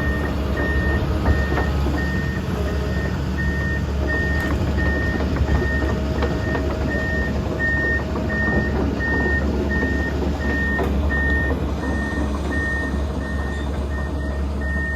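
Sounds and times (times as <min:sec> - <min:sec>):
diesel engine running: 0:00.0 - 0:14.9
excavator travel alarm beeping: 0:00.0 - 0:14.9.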